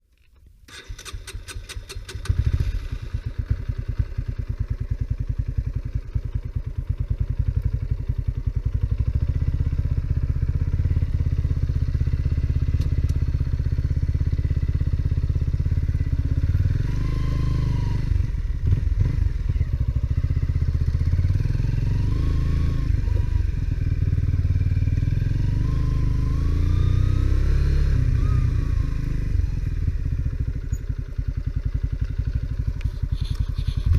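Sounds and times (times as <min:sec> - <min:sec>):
motorcycle engine running: 0:00.9 - 0:33.9.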